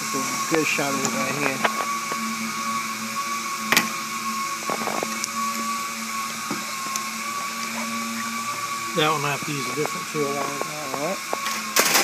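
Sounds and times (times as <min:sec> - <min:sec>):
electric motor hum: 0:00.0 - 0:12.0.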